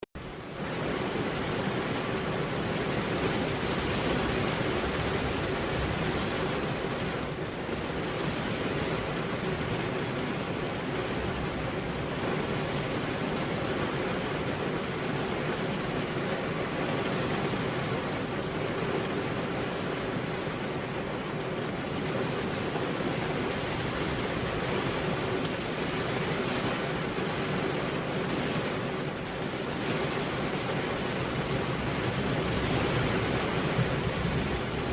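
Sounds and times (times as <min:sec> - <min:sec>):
heavy rain on a road: 0:00.2 - 0:34.9.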